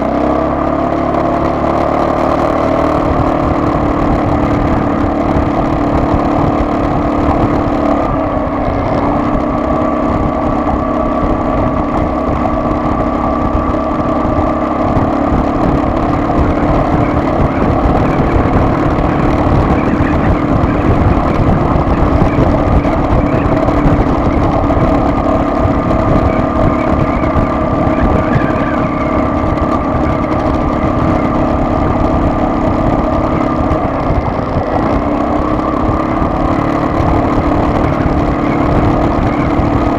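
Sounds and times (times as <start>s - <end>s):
car engine drone: 0.0s - 39.9s
road rumble: 0.0s - 39.9s.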